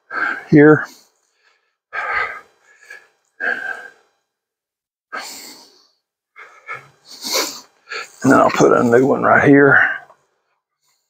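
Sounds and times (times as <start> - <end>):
person breathing heavily: 0.0 - 4.3, 5.1 - 11.0.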